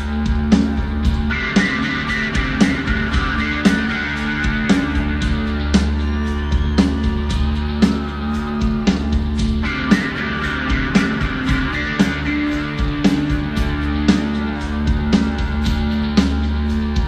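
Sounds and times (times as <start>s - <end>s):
drum beat: 0.0s - 17.0s
rock band playing slow song: 0.0s - 17.0s.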